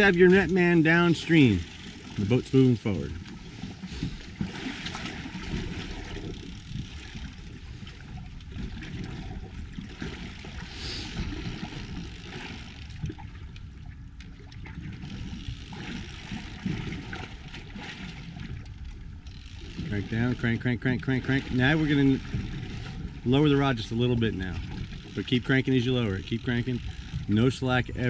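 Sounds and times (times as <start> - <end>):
water lapping against boat hull: 0.0 - 28.0.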